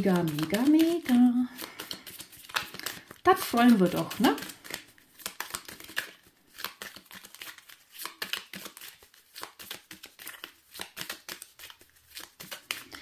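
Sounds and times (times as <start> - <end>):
cards rustling: 0.0 - 13.0.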